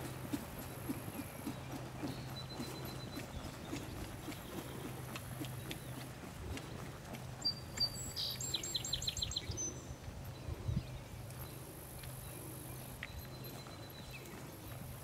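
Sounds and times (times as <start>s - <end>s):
horse hooves thudding on grass: 0.0s - 15.0s
steady low hum: 0.0s - 15.0s.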